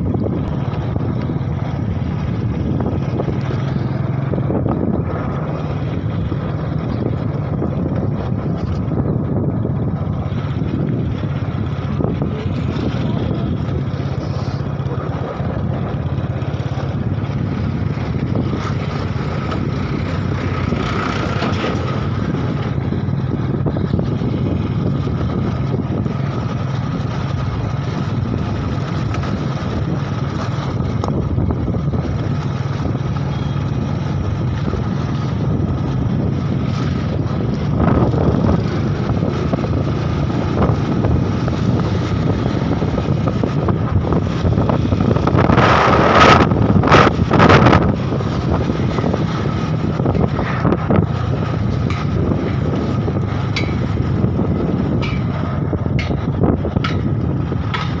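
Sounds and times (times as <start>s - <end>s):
motorbike engine cruising: 0.0s - 58.0s
wind rushing over microphone: 0.0s - 58.0s.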